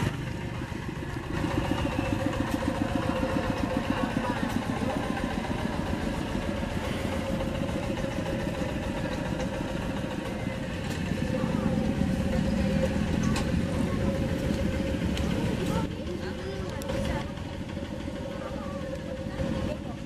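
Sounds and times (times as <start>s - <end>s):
diesel hand tractor engine running: 0.0s - 20.0s.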